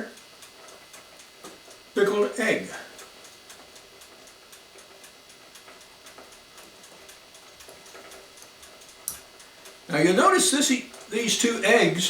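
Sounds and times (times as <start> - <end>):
clockwork ticking: 0.0 - 12.0.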